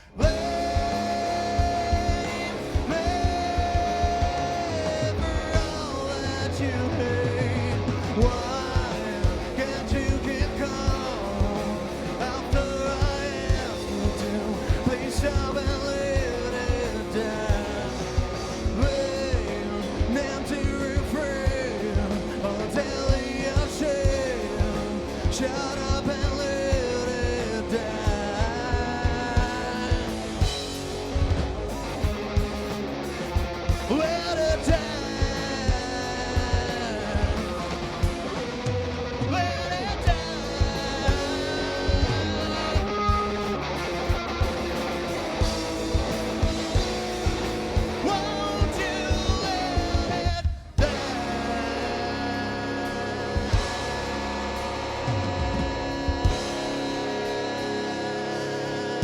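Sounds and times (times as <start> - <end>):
person singing: 0.0 - 31.3, 33.8 - 59.0
drum beat: 0.0 - 51.6
electric guitar: 0.0 - 59.0.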